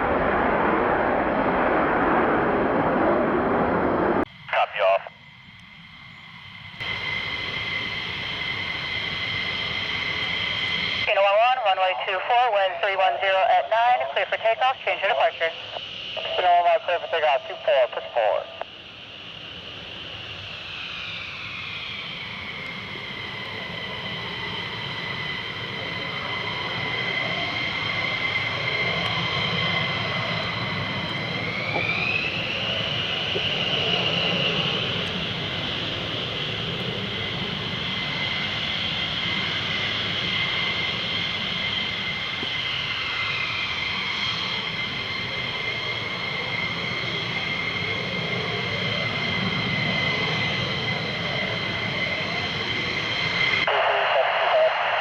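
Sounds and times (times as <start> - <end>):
fighter jet engine whine: 0.0 - 55.0.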